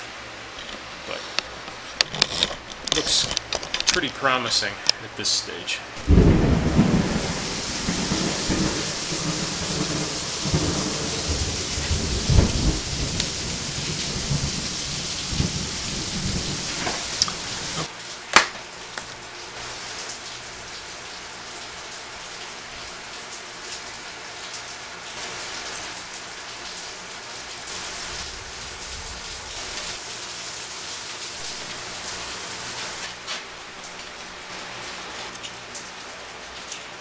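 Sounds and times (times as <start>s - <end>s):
rain hissing: 0.0s - 37.0s.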